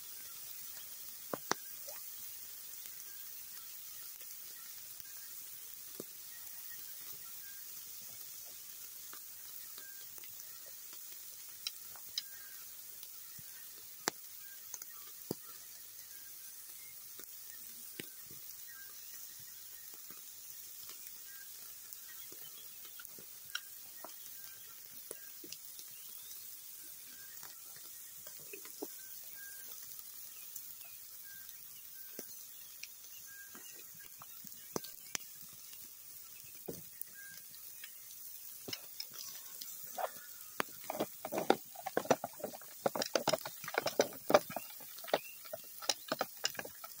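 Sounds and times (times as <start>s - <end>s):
meat sizzling and popping on grill: 0.0s - 47.0s.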